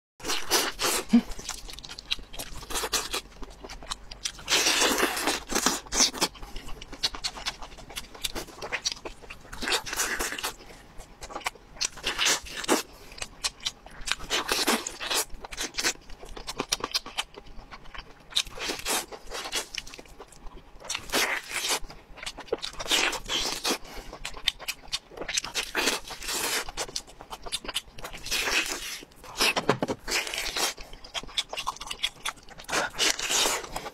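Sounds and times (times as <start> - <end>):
person chewing: 0.2 - 33.9.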